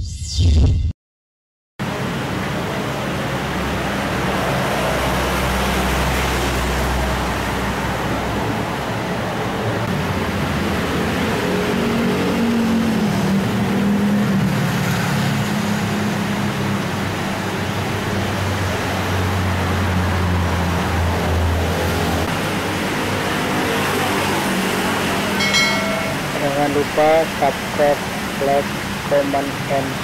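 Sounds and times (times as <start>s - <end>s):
roadside traffic noise: 1.8s - 30.0s
motorbike engines passing: 2.0s - 29.0s.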